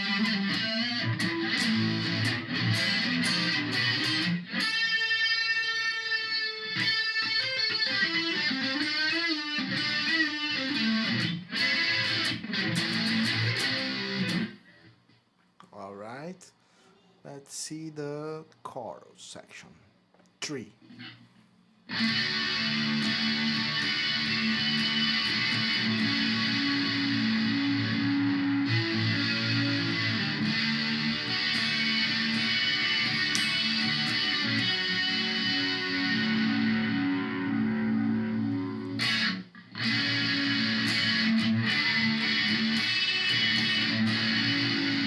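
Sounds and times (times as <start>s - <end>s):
electric guitar chords with chorus: 0.0s - 14.6s, 21.9s - 45.0s.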